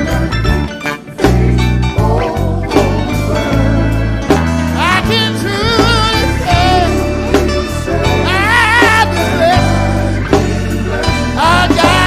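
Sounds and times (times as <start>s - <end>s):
gospel band playing: 0.0s - 12.0s
person singing with vibrato: 0.0s - 12.0s.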